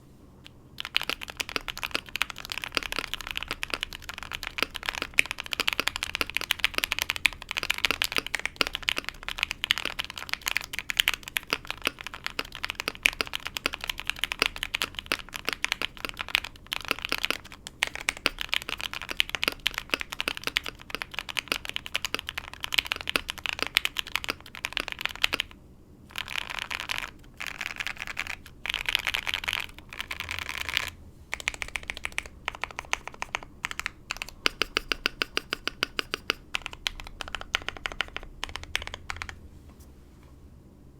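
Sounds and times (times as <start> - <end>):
mechanical keyboard typing: 0.4 - 39.4.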